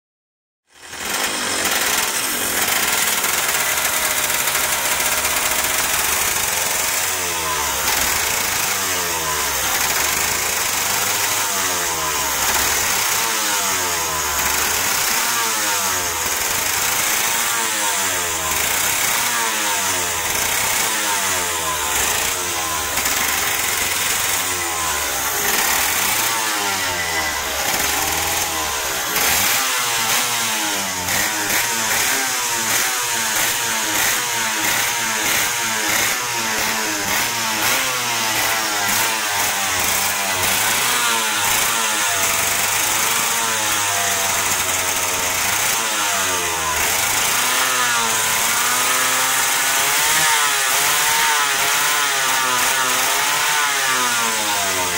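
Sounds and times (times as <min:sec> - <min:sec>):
kart engine running: 0:00.7 - 0:54.9.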